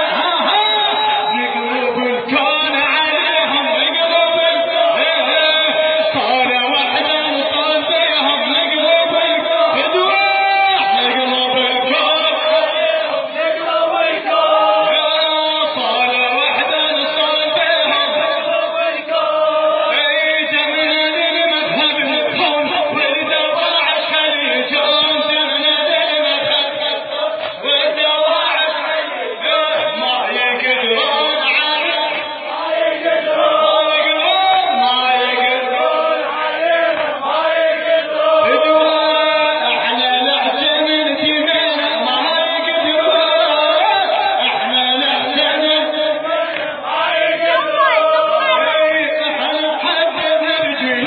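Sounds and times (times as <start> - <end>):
man chanting: 0.0 - 51.0.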